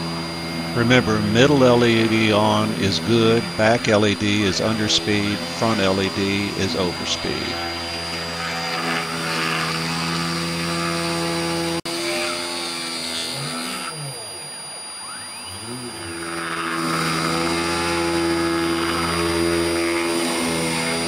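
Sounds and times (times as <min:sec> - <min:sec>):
spindle motor whine: 0:00.0 - 0:21.0.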